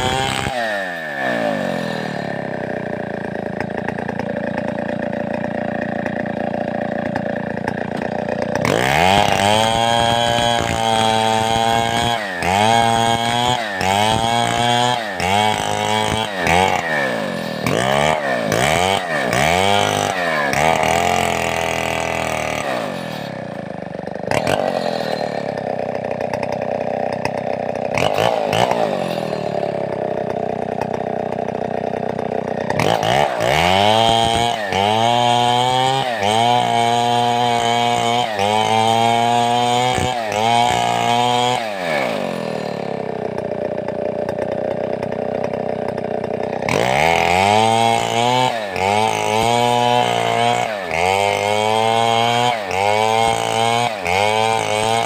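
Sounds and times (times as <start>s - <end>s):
chainsaw idling and revving: 0.0s - 55.0s.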